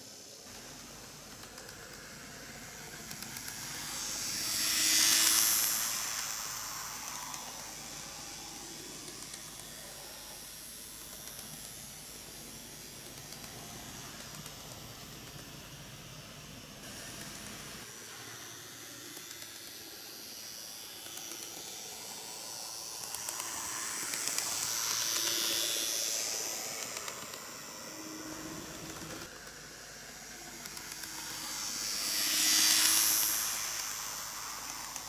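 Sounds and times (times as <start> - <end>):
model train motor whirring: 0.0 - 35.0.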